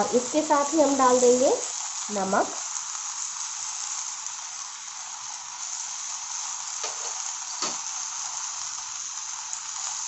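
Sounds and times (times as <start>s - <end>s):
vegetables sizzling in a pan: 0.0s - 10.0s.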